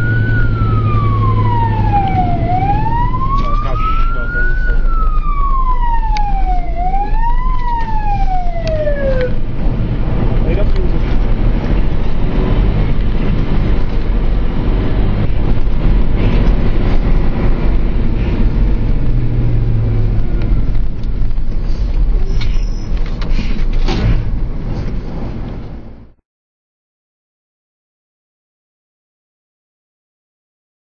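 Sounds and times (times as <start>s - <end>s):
fire engine driving from cab: 0.0s - 26.2s.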